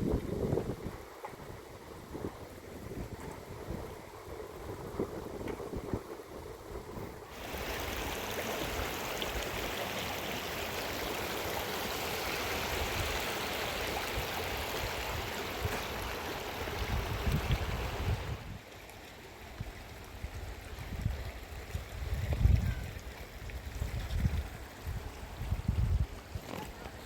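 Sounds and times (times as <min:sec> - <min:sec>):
rushing water: 0:00.0 - 0:27.0.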